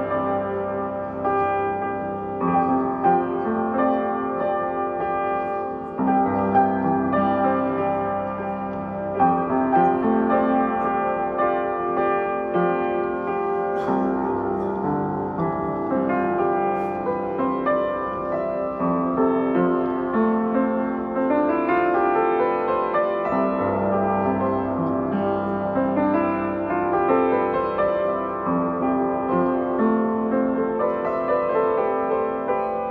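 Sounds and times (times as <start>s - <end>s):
slow piano music: 0.0s - 32.9s.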